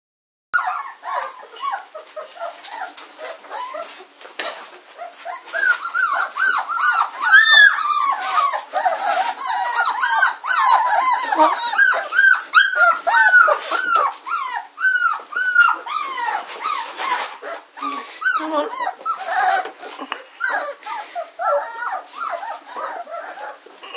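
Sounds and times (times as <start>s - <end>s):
puppies whining and squeaking: 0.6s - 23.9s.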